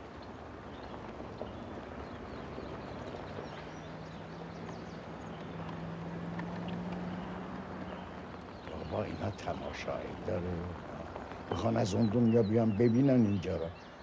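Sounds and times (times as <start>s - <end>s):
car engine hum: 0.0s - 13.7s
tyre and road noise: 0.0s - 14.0s.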